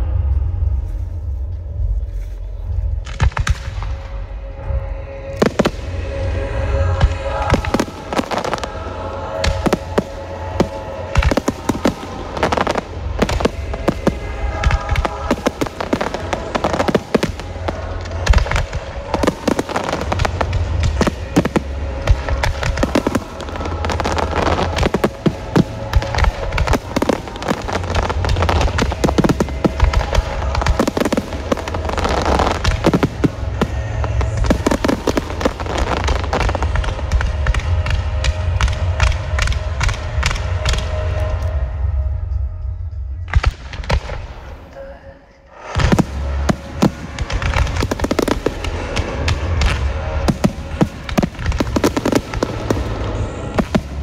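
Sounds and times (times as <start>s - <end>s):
fireworks bursting and crackling: 2.9s - 4.4s, 5.3s - 41.5s, 43.3s - 44.7s, 45.6s - 54.0s.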